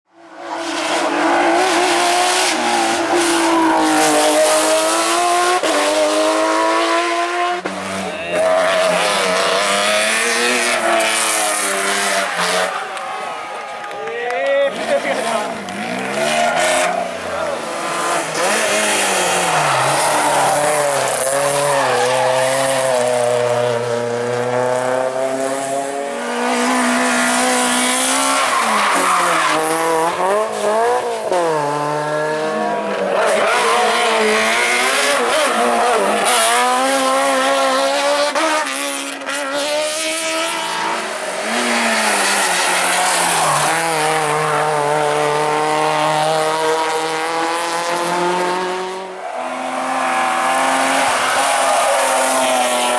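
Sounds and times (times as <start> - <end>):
race car engines revving: 0.1 - 52.9.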